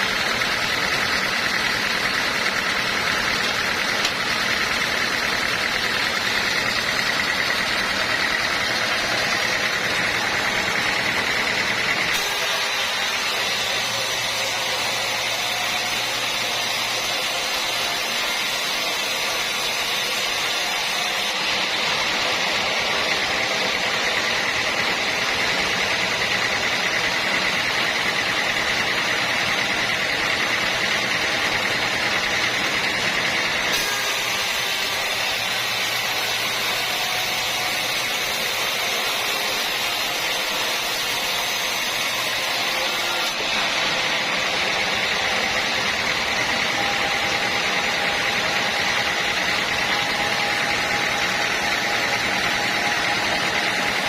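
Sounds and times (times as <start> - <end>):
sawmill machinery hum and hiss: 0.0 - 54.0.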